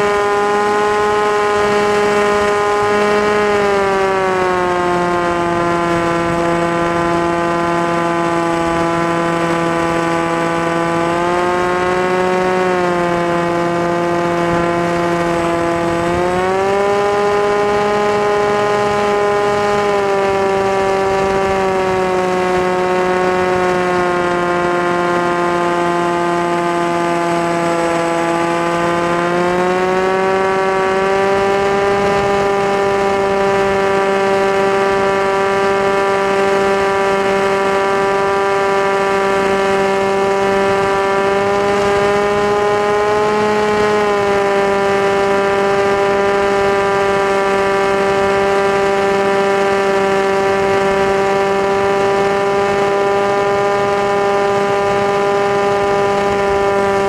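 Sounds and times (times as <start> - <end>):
model aircraft motor whine: 0.0 - 57.0.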